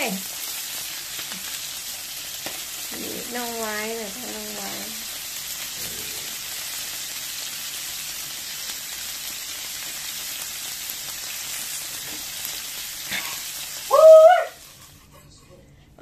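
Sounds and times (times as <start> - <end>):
meat sizzling on grill: 0.0 - 15.1.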